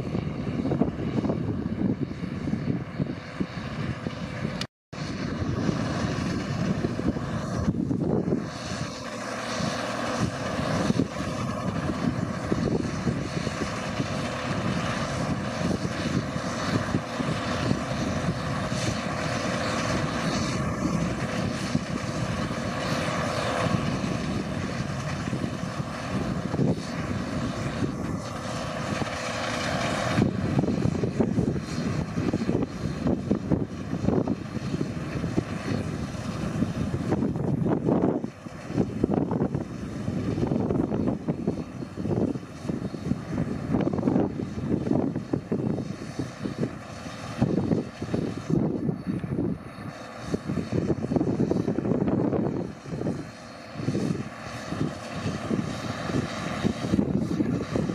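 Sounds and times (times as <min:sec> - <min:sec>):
combine harvester running: 0:00.0 - 0:57.9
constant machinery whine: 0:00.0 - 0:57.9.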